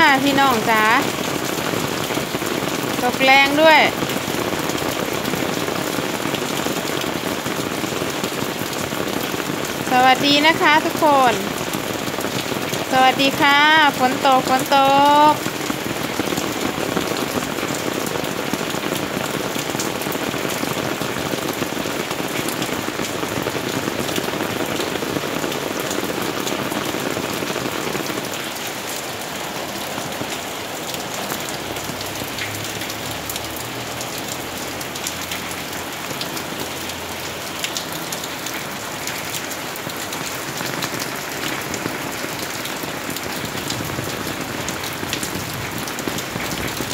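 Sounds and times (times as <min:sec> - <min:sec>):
heavy rain on plants and paving: 0:00.0 - 0:46.9.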